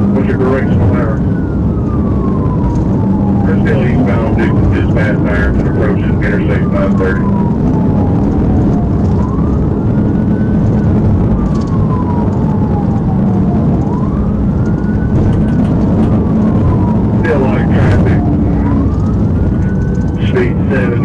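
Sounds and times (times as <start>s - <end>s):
car engine and road noise: 0.0s - 21.0s
police siren wailing: 0.0s - 21.0s.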